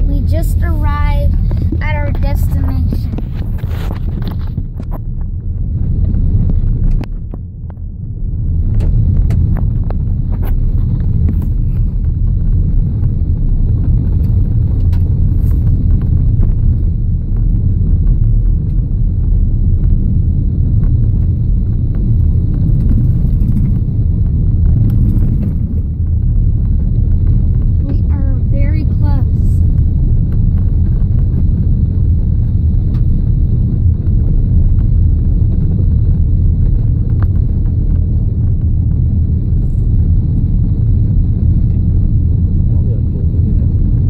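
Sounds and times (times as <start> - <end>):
car engine running: 0.0 - 44.0
tyres rumbling on gravel: 0.0 - 44.0.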